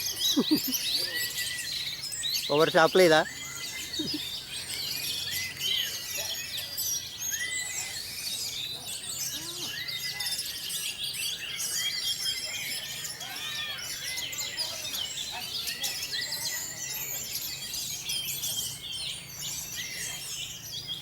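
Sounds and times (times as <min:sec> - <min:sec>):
songbirds singing and chirping: 0:00.0 - 0:21.0.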